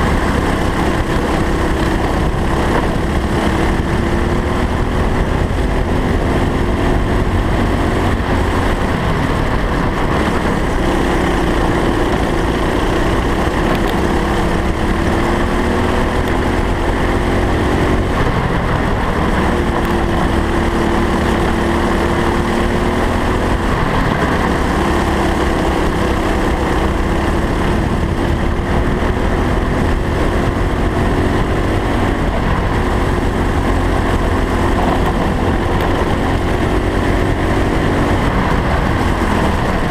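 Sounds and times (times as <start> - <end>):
kart engine at full throttle: 0.0 - 39.9
wind rumble on camera: 0.0 - 39.9.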